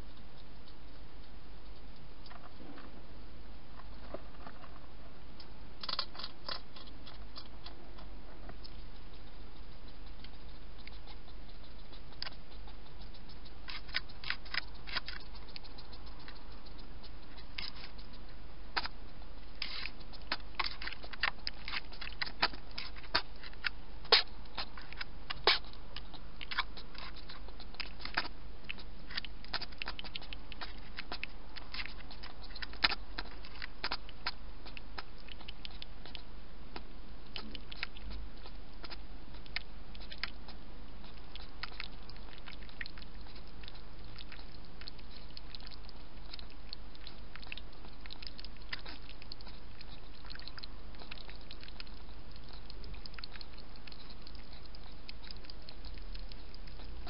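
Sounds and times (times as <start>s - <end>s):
steady low hum: 0.0s - 57.0s
hedgehog crunching food pellets: 3.8s - 57.0s.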